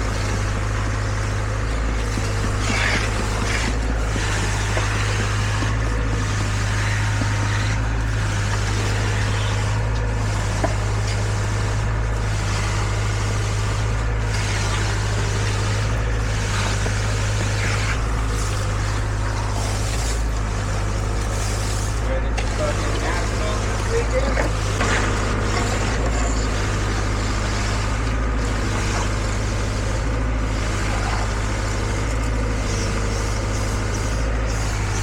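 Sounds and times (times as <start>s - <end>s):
engine hiss: 0.0s - 35.0s
heavy engine droning: 0.0s - 35.0s.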